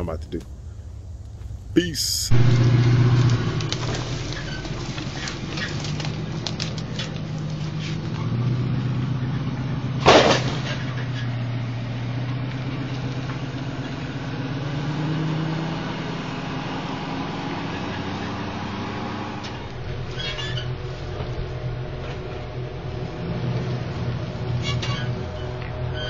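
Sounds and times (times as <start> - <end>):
trailer rattling: 0.0 - 26.0
pickup truck engine running: 0.4 - 26.0.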